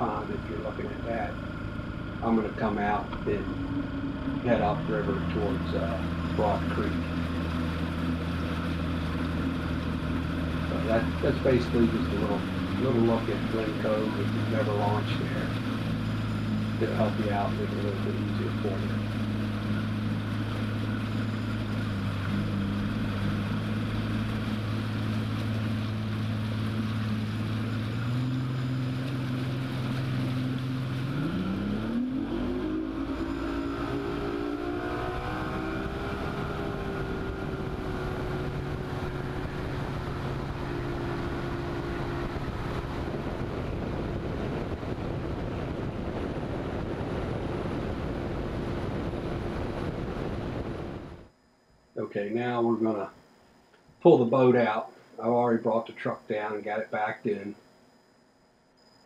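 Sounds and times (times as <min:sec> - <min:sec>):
wind and water rushing: 0:00.0 - 0:51.3
outboard motor running: 0:00.0 - 0:57.9.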